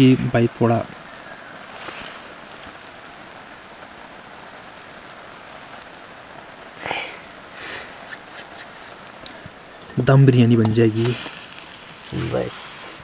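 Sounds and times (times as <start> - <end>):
campfire hissing and crackling: 0.0 - 13.0.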